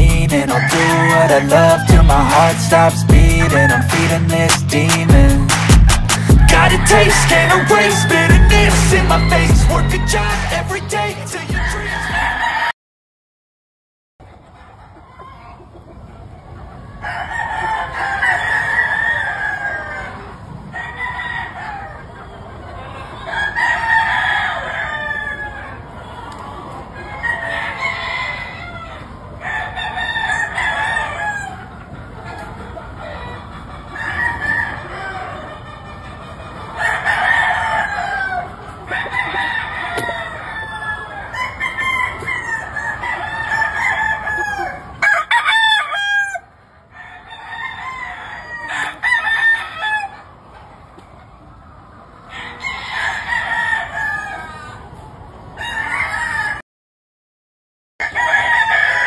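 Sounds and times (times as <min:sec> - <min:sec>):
hens clucking: 0:00.0 - 0:12.6, 0:14.2 - 0:56.6
roosters crowing: 0:00.0 - 0:12.8, 0:16.7 - 0:50.5, 0:51.3 - 0:56.6, 0:58.0 - 0:59.0.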